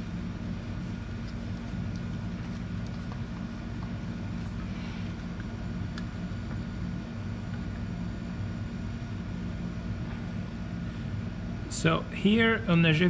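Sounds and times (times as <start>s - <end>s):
low hum of machinery: 0.0s - 13.0s.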